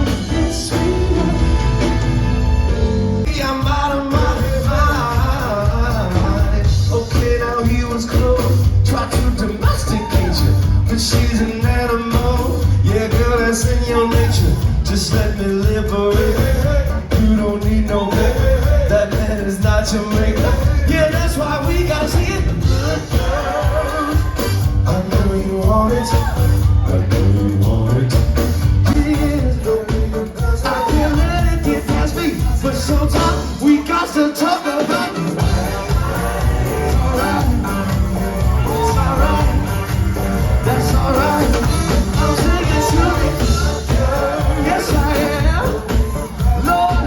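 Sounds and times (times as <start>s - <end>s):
wordless singing: 0.0s - 2.3s, 3.2s - 47.0s
live band with heavy bass beat: 0.0s - 47.0s.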